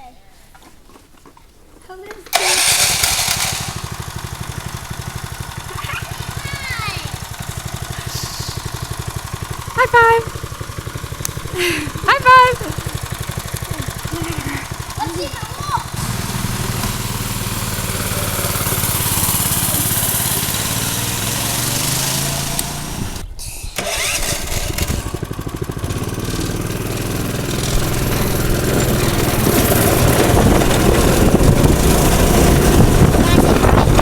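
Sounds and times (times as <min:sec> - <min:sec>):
go-kart engine running: 0:02.3 - 0:34.0.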